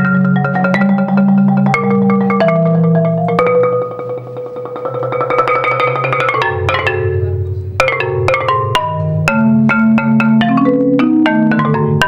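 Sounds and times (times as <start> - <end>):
marimba played with mallets: 0.0 - 12.0.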